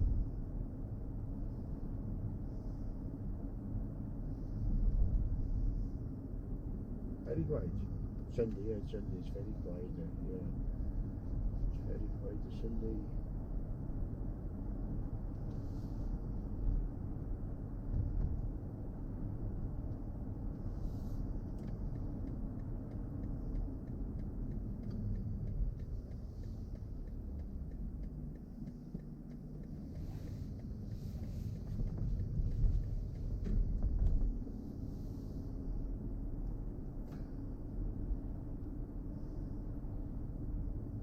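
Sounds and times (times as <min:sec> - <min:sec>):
road and tyre rumble: 0:00.0 - 0:41.0.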